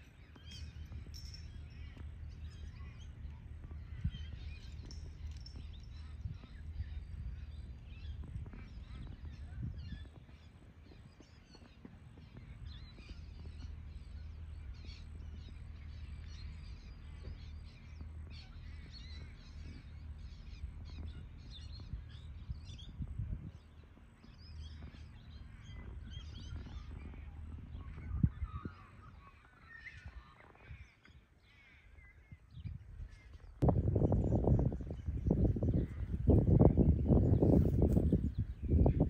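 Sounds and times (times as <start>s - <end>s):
birds chirping and calling: 0.0s - 39.0s.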